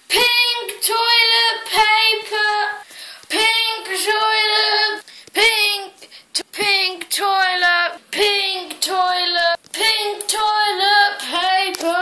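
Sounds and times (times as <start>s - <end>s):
child singing in a high voice: 0.1s - 12.0s.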